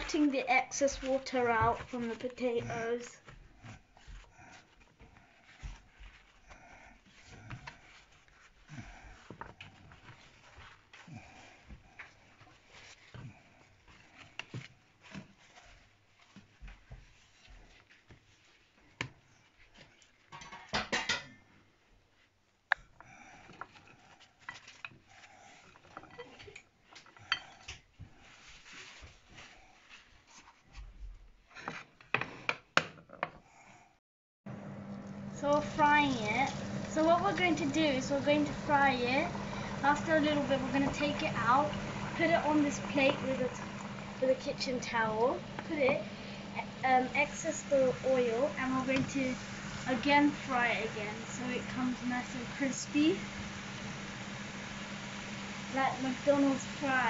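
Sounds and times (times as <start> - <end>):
paper towels rustling and crinkling: 0.0 - 20.3, 21.7 - 27.0, 27.8 - 31.8, 34.6 - 57.0.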